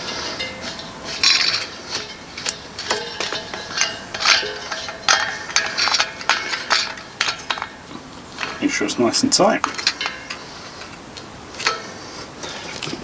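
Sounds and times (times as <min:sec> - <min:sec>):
metallic scrapes and clicks: 0:00.0 - 0:08.8, 0:09.6 - 0:12.0.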